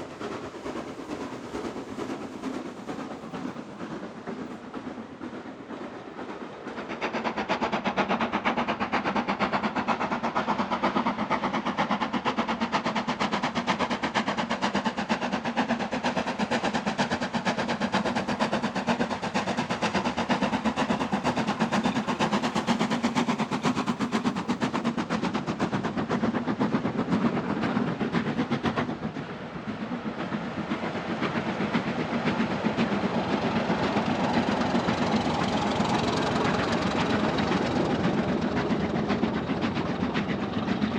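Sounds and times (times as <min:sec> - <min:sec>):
locomotive rapid even beat: 0:00.0 - 0:40.9.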